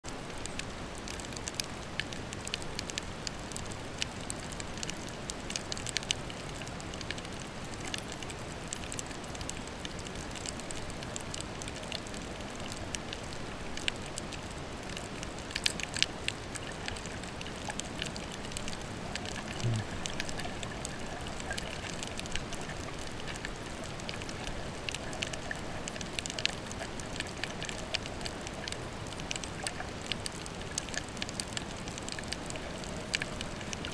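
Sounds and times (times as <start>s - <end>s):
sharp clicks and crackles: 0.1s - 33.9s.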